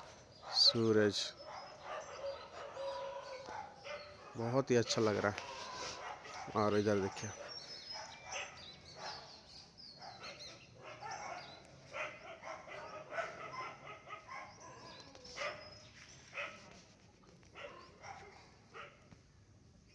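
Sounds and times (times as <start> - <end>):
dog barking: 0.0 - 16.8, 17.5 - 19.1
small birds chirping: 0.0 - 19.9.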